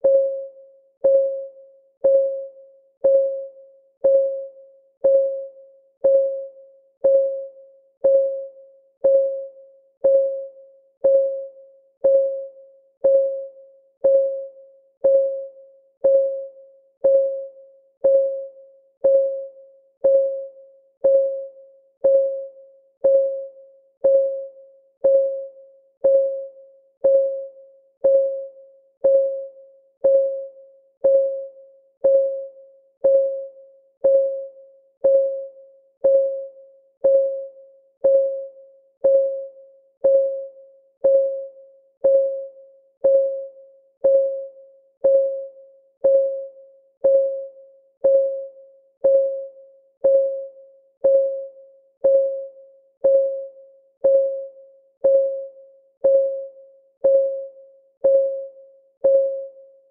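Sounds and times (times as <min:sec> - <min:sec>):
timer ticking: 0:00.0 - 0:59.6.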